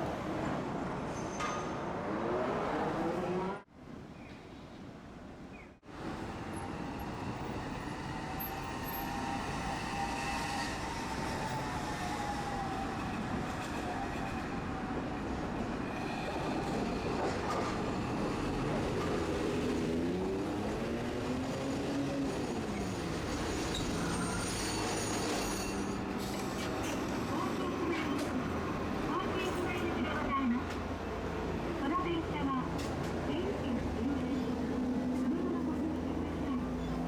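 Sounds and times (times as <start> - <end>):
streetcar rumbling on rails: 0.0 - 37.0.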